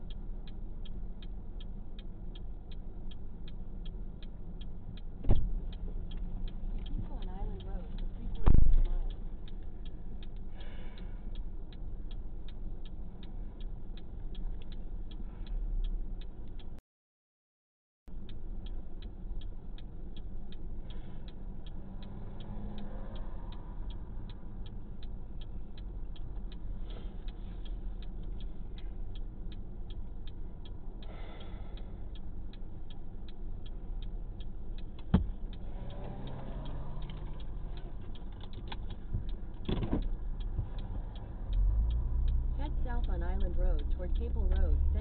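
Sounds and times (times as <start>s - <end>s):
car engine running: 0.0s - 16.8s, 18.1s - 45.0s
car indicator ticking: 0.0s - 16.8s, 18.1s - 45.0s
road noise: 0.0s - 16.8s, 18.1s - 45.0s.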